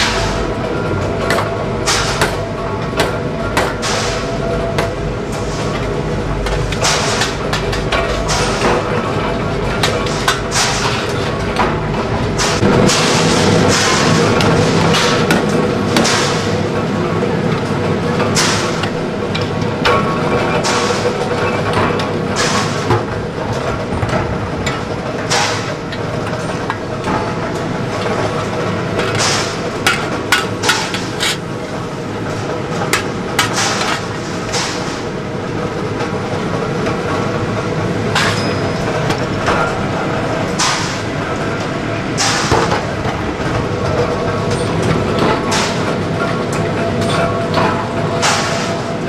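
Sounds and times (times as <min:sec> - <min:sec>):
workshop machinery din: 0:00.0 - 0:49.0.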